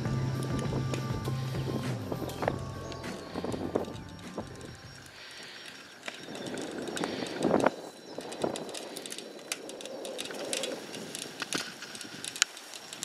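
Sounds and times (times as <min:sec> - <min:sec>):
bike wheels rattling over rocks: 0:00.0 - 0:13.0.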